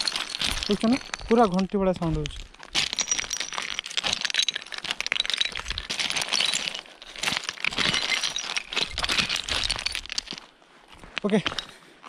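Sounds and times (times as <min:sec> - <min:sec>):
stone fragments clinking under boots: 0:00.0 - 0:12.0.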